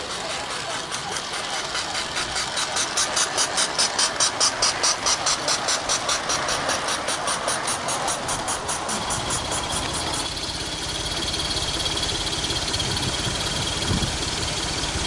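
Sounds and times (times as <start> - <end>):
small steam locomotive chuffing: 0.0 - 15.0.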